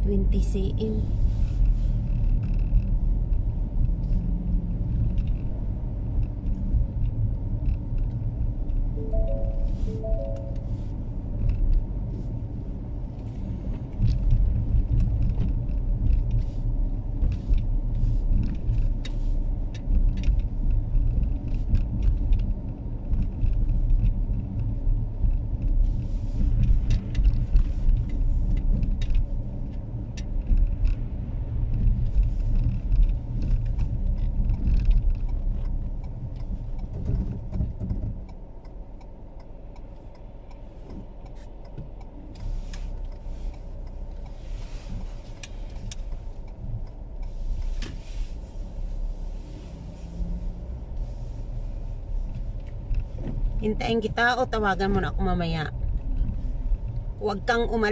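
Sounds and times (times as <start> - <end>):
car tyres and engine rumble: 0.0 - 57.9.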